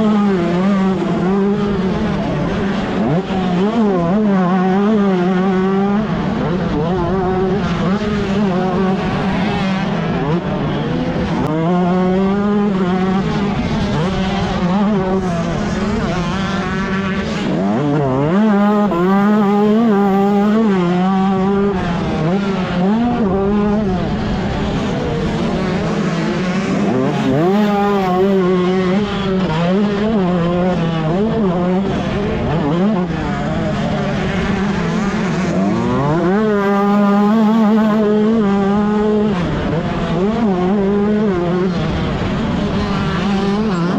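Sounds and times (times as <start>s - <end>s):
two-stroke motorbike revving: 0.0s - 43.9s.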